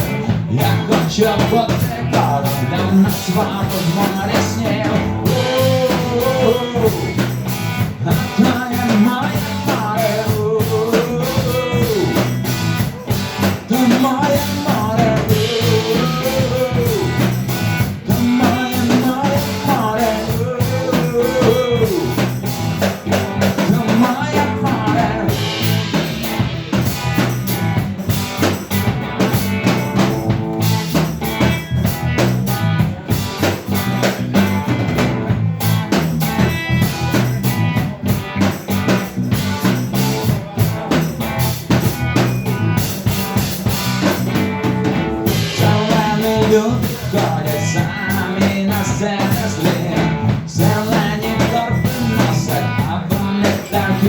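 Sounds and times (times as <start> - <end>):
drum kit beat: 0.0 - 54.0.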